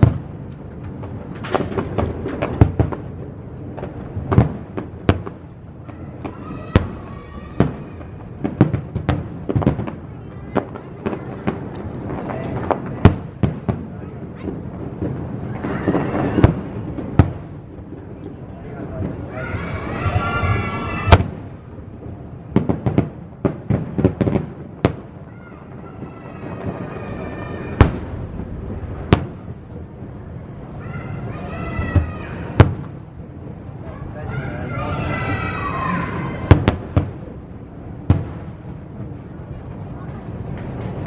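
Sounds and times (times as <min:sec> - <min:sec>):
fireworks booming: 0:00.0 - 0:41.0
steady noisy background: 0:00.0 - 0:41.0.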